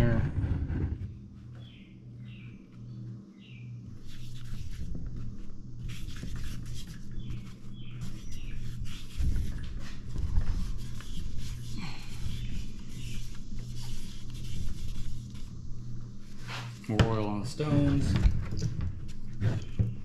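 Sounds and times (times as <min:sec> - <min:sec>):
steady low hum: 0:00.0 - 0:20.0
hands rustling and scraping on engine: 0:03.9 - 0:20.0.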